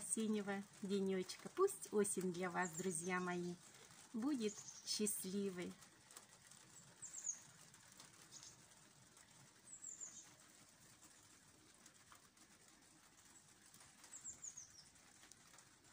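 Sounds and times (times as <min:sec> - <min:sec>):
songbirds chirping: 0:00.0 - 0:15.9.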